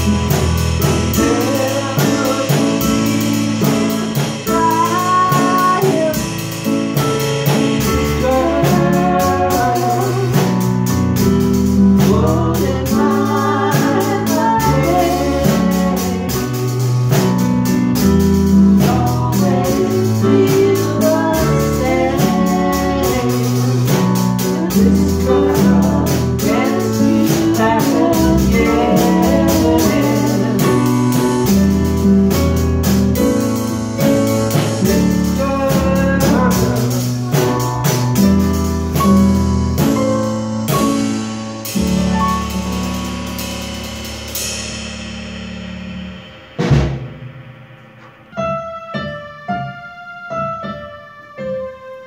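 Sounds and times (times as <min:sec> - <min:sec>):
electronic keyboards playing: 0:00.0 - 0:44.5, 0:47.2 - 0:52.0
loud drum hit: 0:00.0 - 0:49.3
drum kit: 0:00.0 - 0:52.0.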